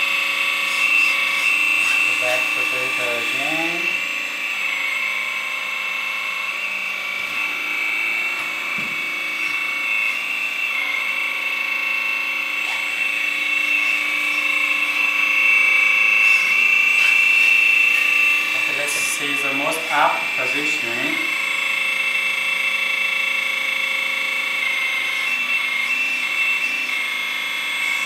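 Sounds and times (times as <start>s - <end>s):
hydraulic pump motor whining: 0.0s - 28.0s.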